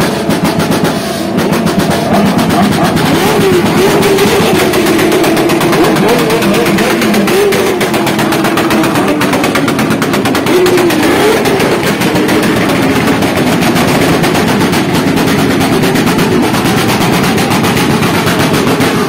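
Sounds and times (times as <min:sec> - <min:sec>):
motorcycle engines running: 0:00.0 - 0:19.0.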